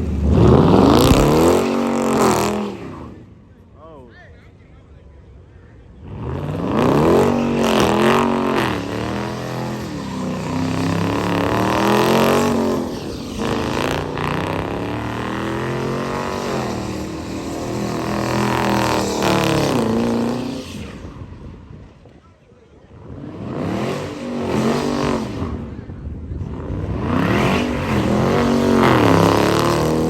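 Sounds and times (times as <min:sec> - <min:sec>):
car engine revving: 0:00.0 - 0:03.4, 0:06.0 - 0:21.4, 0:22.9 - 0:30.0.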